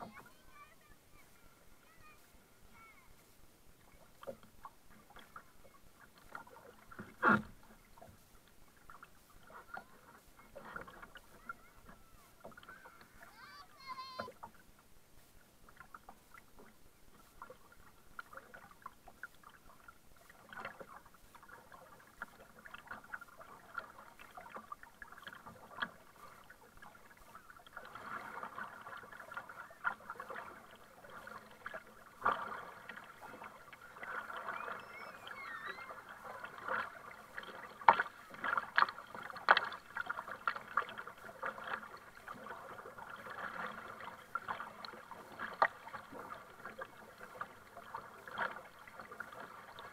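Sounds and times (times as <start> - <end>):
paddle splashing in water: 0.0 - 49.9
water slapping plastic hull: 3.8 - 14.7, 15.6 - 49.9.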